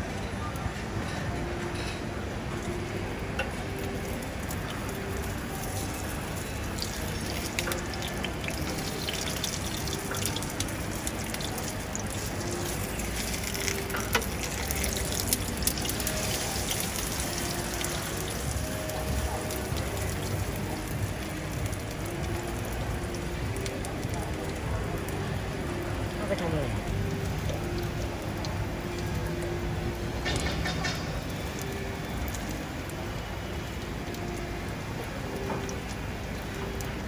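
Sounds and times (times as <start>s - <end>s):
food sizzling in a pan: 3.4s - 34.1s.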